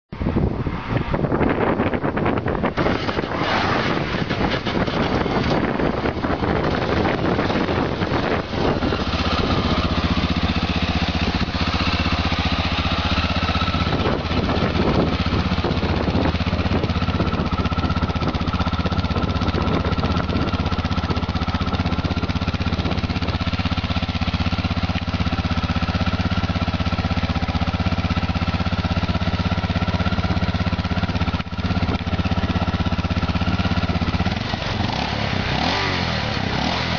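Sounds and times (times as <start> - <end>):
motorcycle engine idling: 1.2 - 36.9.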